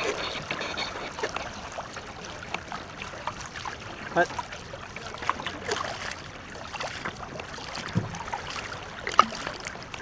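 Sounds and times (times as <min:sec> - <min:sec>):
paddles splashing in water: 0:00.0 - 0:10.0
water swishing and dripping: 0:00.0 - 0:10.0.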